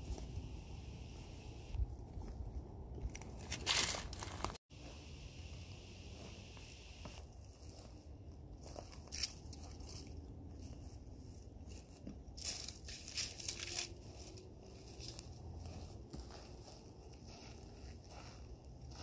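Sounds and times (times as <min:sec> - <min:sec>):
footsteps crunching on dry grass and twigs: 0:00.0 - 0:19.0.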